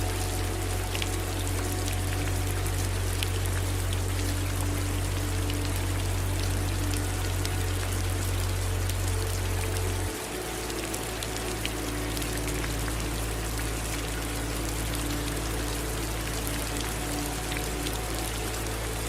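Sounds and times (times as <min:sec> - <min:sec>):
low rumble: 0:00.0 - 0:19.0
steady rain: 0:00.0 - 0:19.0.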